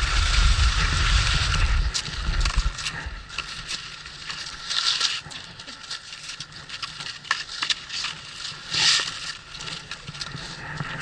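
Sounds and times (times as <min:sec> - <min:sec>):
skis scraping on snow: 0:00.0 - 0:11.0.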